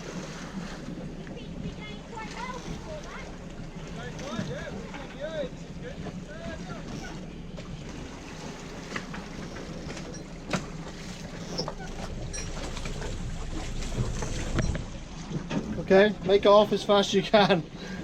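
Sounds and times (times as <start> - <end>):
boat engine running: 0.0 - 18.0
water noise: 0.0 - 18.0
wind: 0.0 - 18.0.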